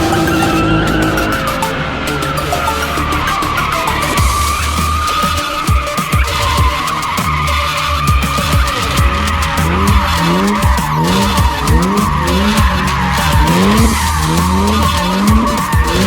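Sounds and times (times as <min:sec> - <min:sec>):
car engine revving: 0:00.0 - 0:16.0
car tyres squealing: 0:00.0 - 0:16.0
electronic music: 0:00.0 - 0:16.0.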